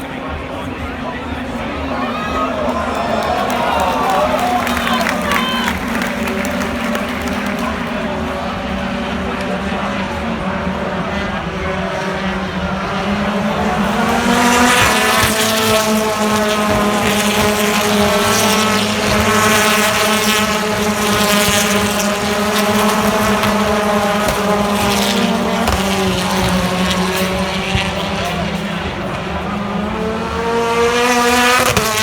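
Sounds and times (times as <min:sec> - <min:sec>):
race car engine at high revs: 0:04.3 - 0:32.0.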